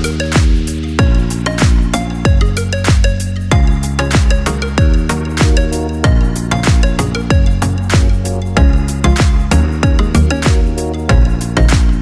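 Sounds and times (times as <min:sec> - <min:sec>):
deep kick drum: 0:00.0 - 0:12.0
electronic music: 0:00.0 - 0:12.0.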